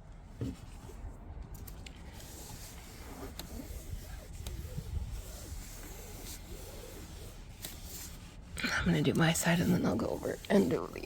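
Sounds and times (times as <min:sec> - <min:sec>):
towel rubbing on dashboard: 0:02.1 - 0:11.0.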